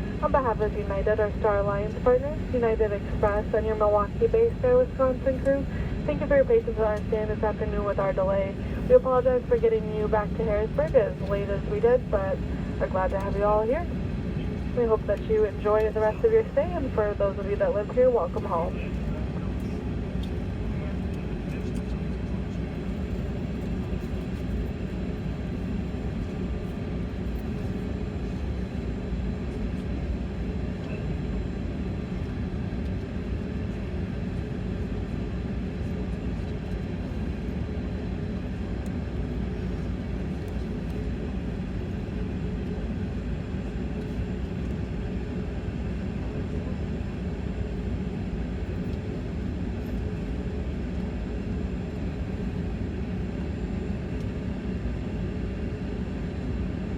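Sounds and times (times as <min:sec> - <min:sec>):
faint steady whines: 0:00.0 - 0:56.9
jet engines idling in cabin: 0:00.0 - 0:56.9.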